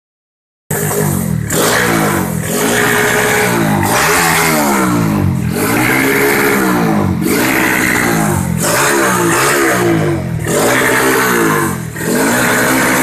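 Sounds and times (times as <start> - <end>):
motorcycle engine revving: 0.7 - 13.0.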